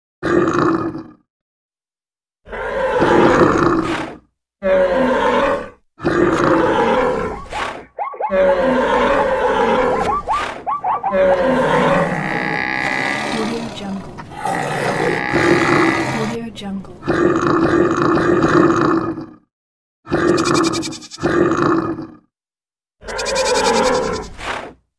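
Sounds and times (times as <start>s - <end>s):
animal roars and grunts: 0.2s - 1.3s, 2.4s - 19.5s, 20.1s - 22.3s, 23.0s - 24.8s.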